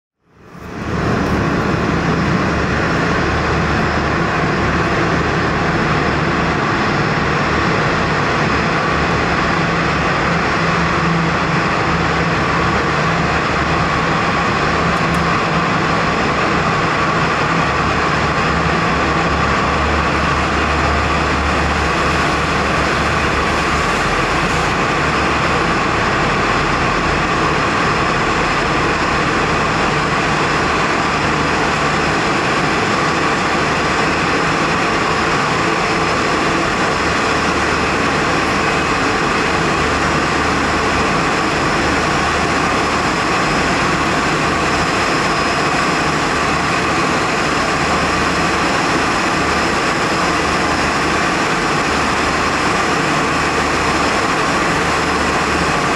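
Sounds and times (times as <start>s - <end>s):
jet engines idling: 0.3s - 55.9s.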